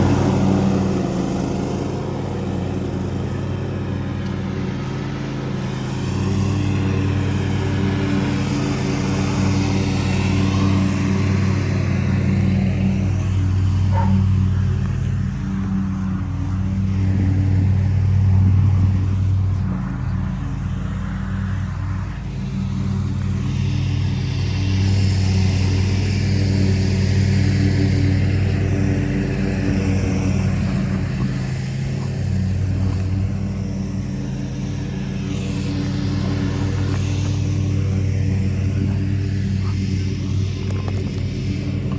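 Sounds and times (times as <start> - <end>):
lawnmower engine running: 0.0 - 41.9.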